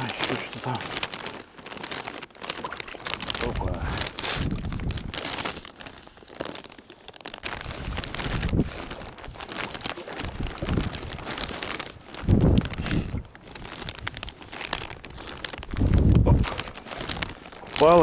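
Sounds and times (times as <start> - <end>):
wet net rustling and splashing: 0.0 - 18.0.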